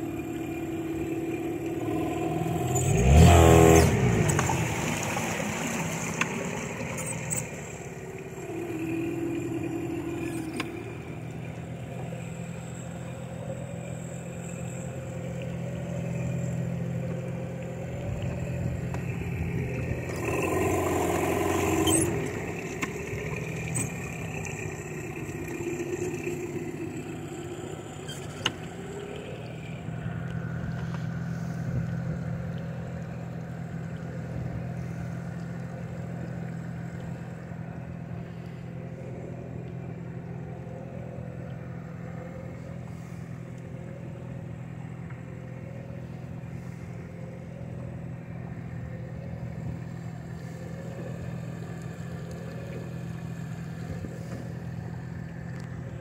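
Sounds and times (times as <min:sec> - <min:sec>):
boat engine idling: 0:00.0 - 0:56.0.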